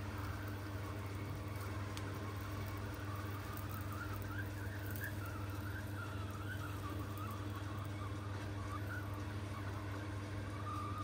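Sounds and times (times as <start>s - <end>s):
hot-air blower whining: 0.0s - 11.0s.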